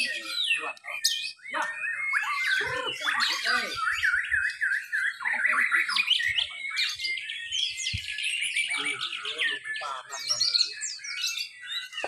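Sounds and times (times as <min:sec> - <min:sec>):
birds singing whistled notes: 0:00.0 - 0:12.0.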